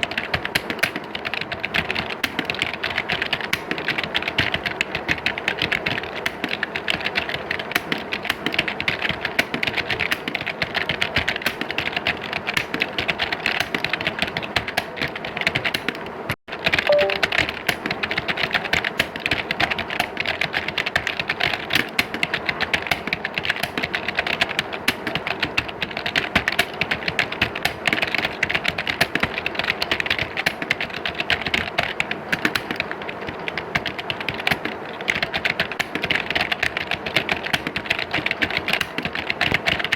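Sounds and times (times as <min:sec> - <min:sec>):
keyboards typing clatter: 0:00.0 - 0:39.9.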